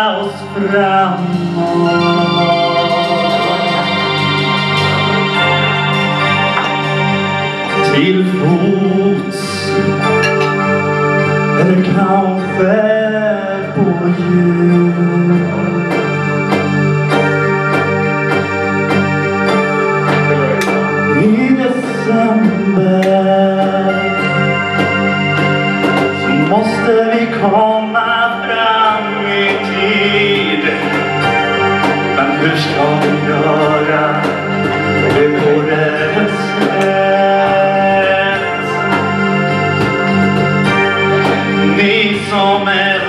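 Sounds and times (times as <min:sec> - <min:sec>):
person singing into a microphone: 0:00.0 - 0:06.8, 0:07.7 - 0:10.9, 0:11.5 - 0:18.0, 0:19.5 - 0:43.0
electronic organ chords: 0:00.0 - 0:43.0
steady drum beat: 0:03.1 - 0:43.0.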